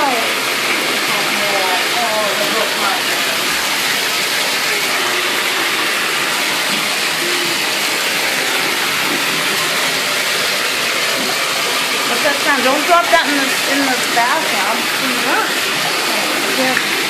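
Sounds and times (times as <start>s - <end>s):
water running into bathtub: 0.0s - 17.0s.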